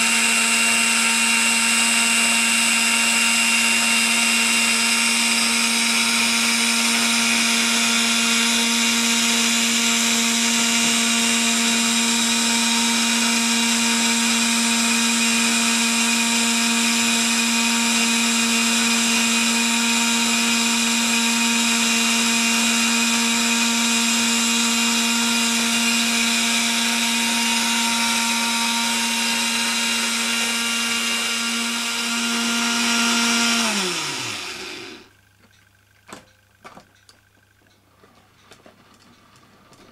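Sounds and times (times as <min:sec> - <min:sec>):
electric motor hum with gear whine: 0:00.0 - 0:37.7.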